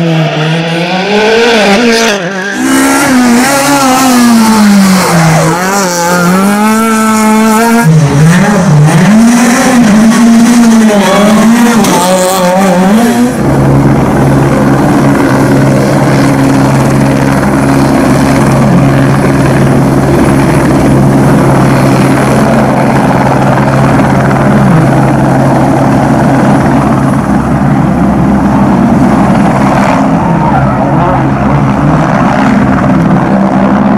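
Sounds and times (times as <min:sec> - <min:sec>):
rally car engine revving: 0:00.0 - 0:33.9
steady droning engine: 0:00.0 - 0:33.9.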